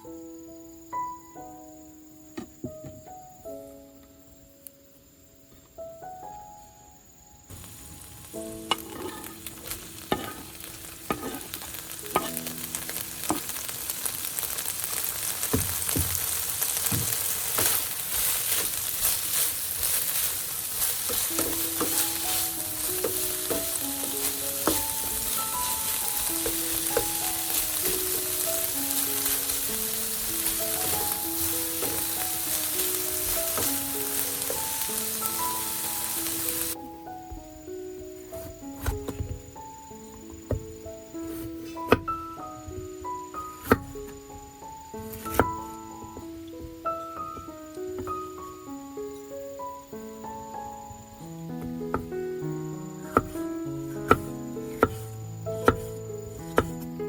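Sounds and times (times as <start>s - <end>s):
food sizzling in a pan: 7.5s - 56.9s.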